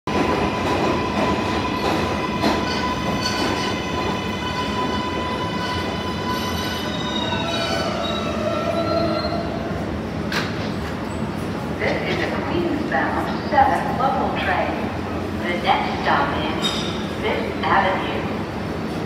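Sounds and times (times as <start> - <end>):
train wheel and motor rumble: 0.1 - 19.0.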